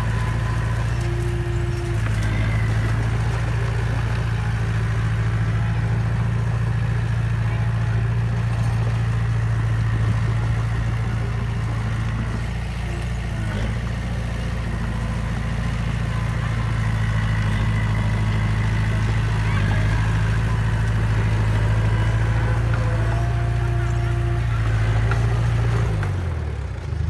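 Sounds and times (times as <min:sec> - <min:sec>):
bulldozer engine humming: 0:00.0 - 0:27.0.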